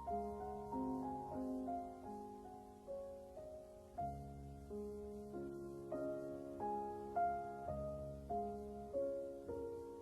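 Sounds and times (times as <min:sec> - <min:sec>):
slow piano-like keyboard melody: 0:00.0 - 0:10.0.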